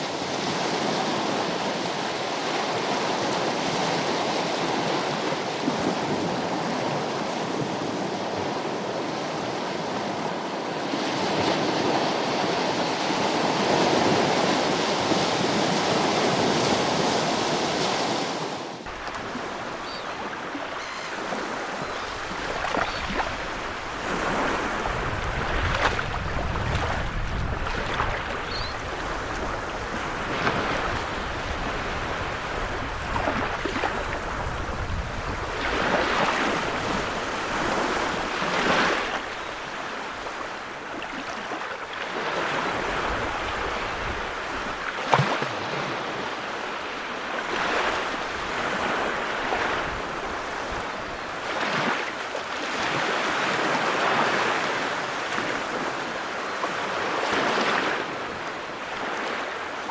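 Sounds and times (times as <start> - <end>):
sea waves breaking: 2.4 - 59.9.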